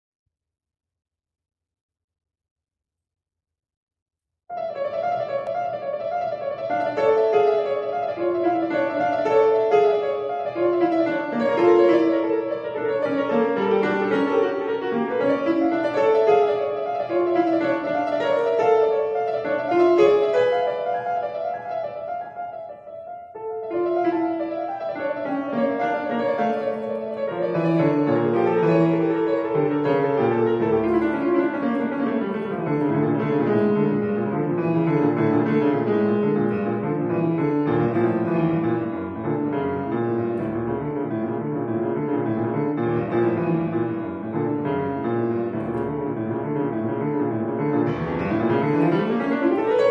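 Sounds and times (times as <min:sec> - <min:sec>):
grand piano playing: 0:04.5 - 0:49.9.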